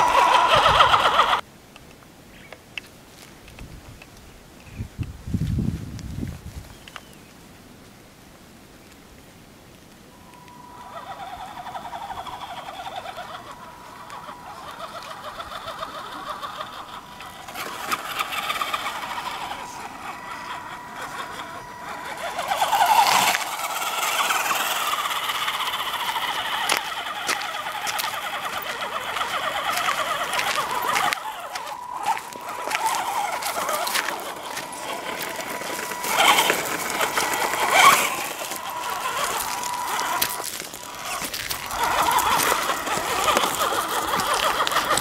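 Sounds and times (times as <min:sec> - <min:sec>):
electric motor and gears whining: 0:00.0 - 0:01.4, 0:10.2 - 0:45.0.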